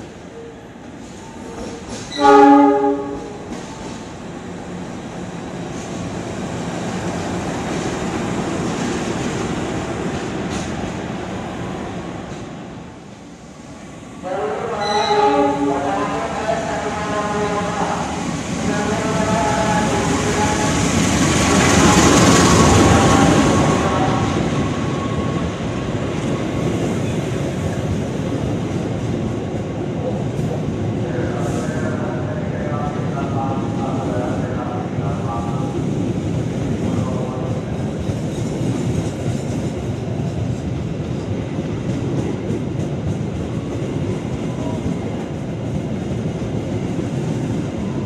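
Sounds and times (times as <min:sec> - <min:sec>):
passenger train passing: 0:00.0 - 0:48.0
wheels rumbling on rail: 0:00.0 - 0:48.0.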